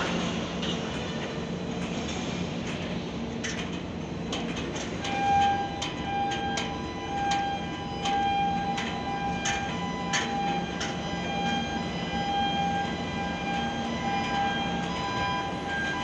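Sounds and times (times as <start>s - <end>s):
crane machinery hum: 0.0s - 16.0s.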